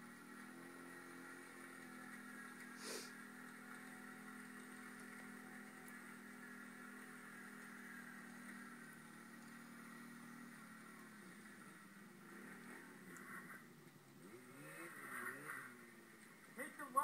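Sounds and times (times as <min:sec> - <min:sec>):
engines droning: 0:00.0 - 0:17.0.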